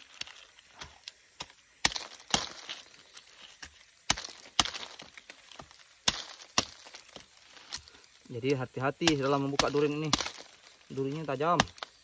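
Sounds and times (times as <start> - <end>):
machete chopping husk: 0.1 - 7.9, 8.9 - 12.0.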